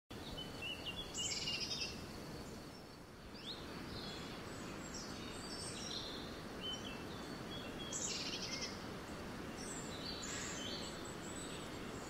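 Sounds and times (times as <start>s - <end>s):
birds chirping: 0.1s - 12.0s
low background hiss: 0.1s - 12.0s.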